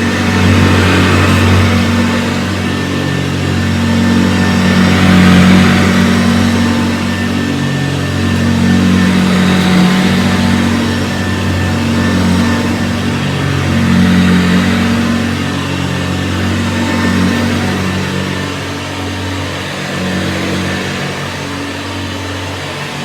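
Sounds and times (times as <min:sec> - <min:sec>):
upright vacuum on carpet: 0:00.0 - 0:23.0.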